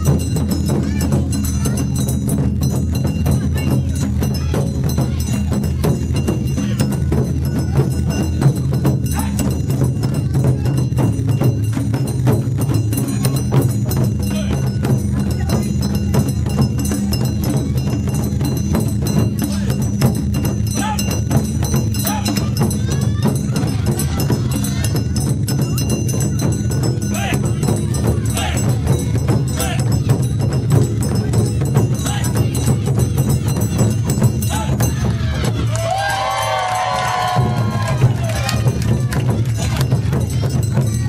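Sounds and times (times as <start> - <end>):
taiko drums beating: 0.0 - 41.0.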